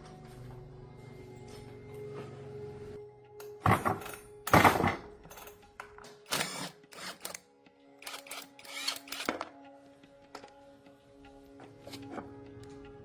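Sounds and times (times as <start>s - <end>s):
background music with held tones: 0.0s - 13.0s.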